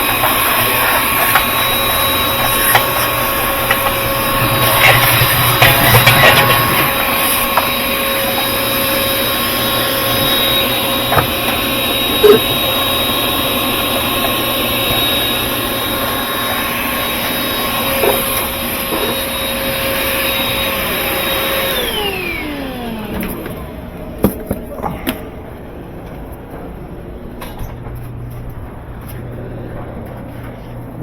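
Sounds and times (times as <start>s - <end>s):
vacuum cleaner motor whining: 0.0s - 25.2s.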